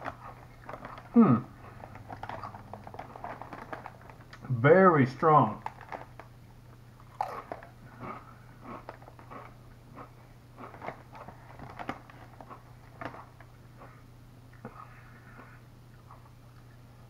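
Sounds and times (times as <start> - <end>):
crunching and chewing chips: 0.0 - 4.6, 5.2 - 17.0.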